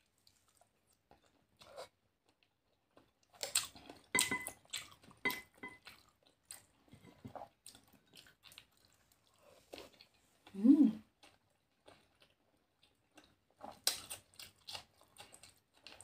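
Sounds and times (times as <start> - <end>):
wet chewing and crunching: 0.0 - 16.0.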